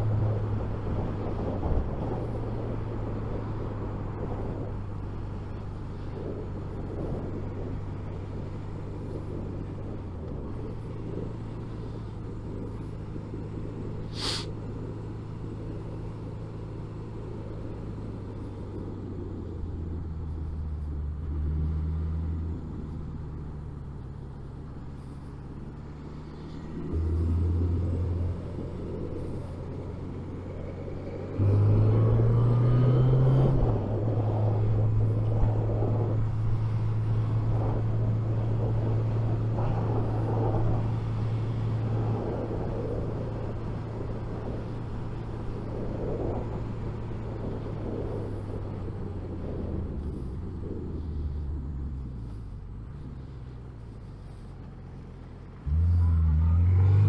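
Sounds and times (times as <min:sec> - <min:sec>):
wind noise: 0:00.0 - 0:54.5.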